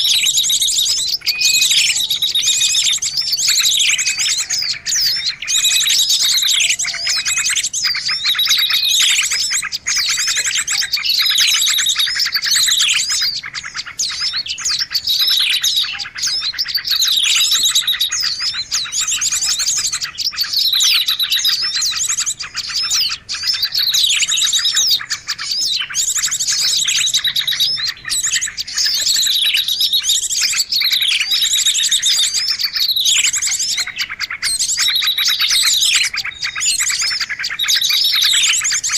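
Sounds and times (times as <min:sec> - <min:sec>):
songbirds chirping and calling: 0:00.0 - 0:38.9.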